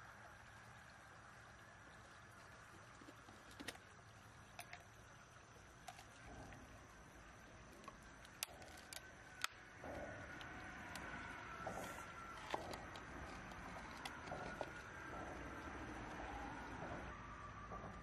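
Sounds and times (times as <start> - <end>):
faint stream running: 0.0 - 18.0.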